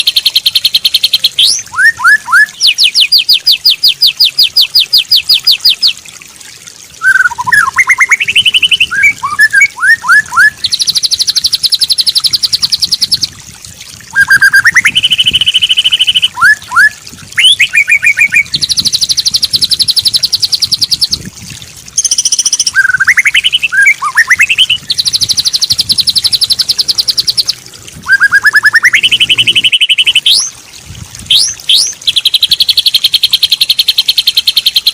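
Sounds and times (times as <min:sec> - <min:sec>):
songbird trills and whistles: 0:00.0 - 0:06.0, 0:07.0 - 0:13.2, 0:14.2 - 0:21.2, 0:22.0 - 0:30.5, 0:31.3 - 0:34.9.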